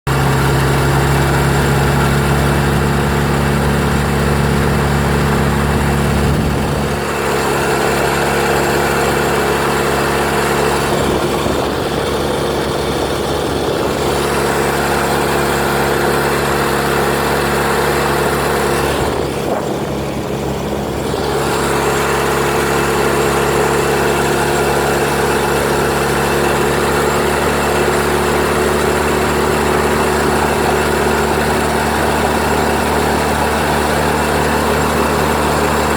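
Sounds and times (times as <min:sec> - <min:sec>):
outboard motor running: 0:00.0 - 0:35.9.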